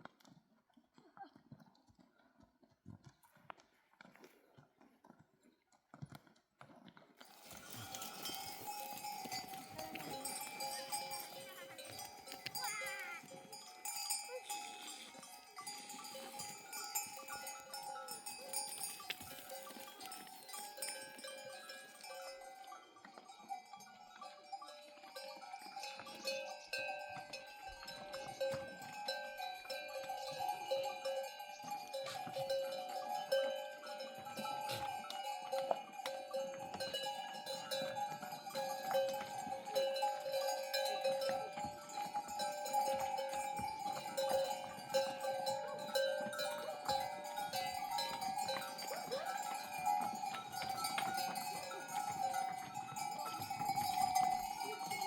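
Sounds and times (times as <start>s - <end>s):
hoof clicks: 0.0s - 55.0s
goat neck bells clanking: 7.2s - 55.0s.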